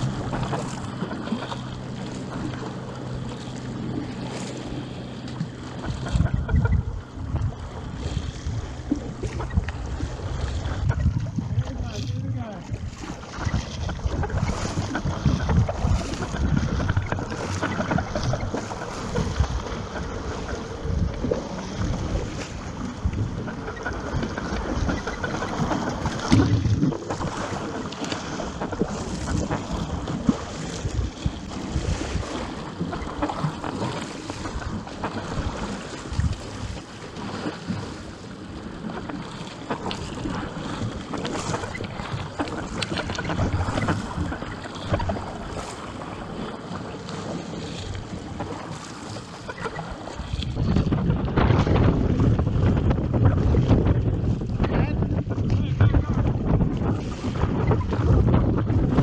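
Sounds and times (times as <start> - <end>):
wind buffeting microphone: 0.0 - 39.0, 39.9 - 59.0
water splashing against a boat: 0.0 - 59.0.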